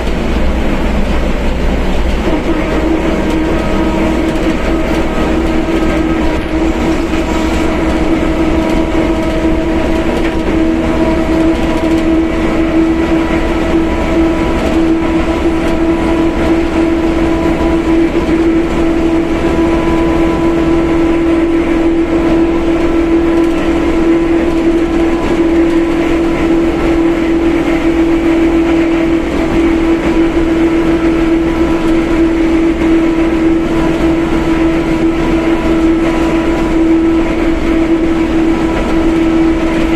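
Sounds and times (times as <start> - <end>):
differential howling: 0.0 - 39.9
drivetrain and road rumble: 0.0 - 39.9.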